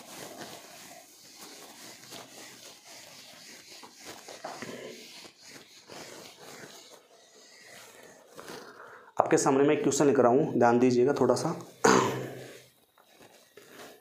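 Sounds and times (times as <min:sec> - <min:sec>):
duster wiping whiteboard: 0:00.0 - 0:14.0.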